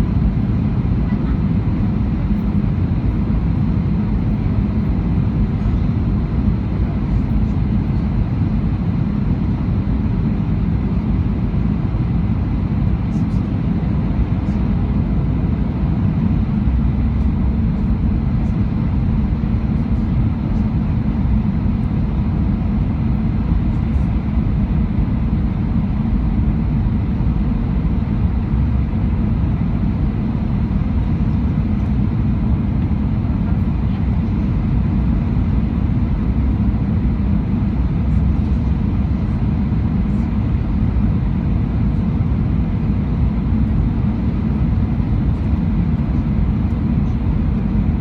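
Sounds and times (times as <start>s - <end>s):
airliner engine rumble: 0.0s - 48.0s.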